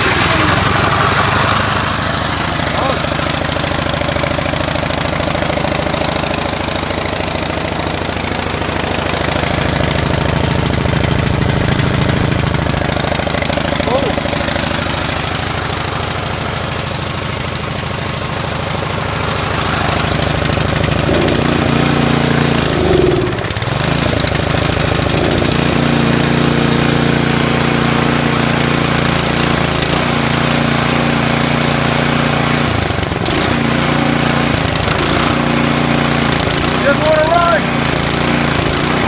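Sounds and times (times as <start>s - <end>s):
snowblower engine running: 0.0s - 39.0s.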